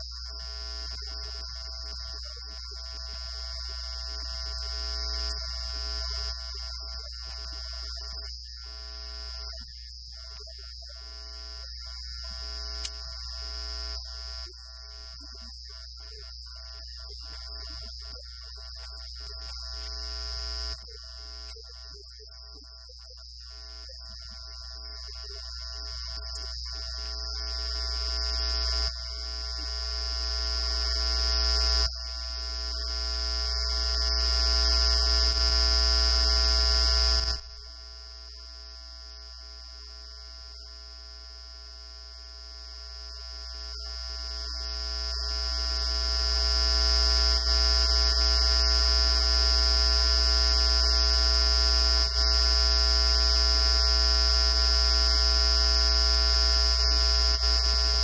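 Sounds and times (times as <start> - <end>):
loud electrical hum and buzz: 0.0 - 58.0.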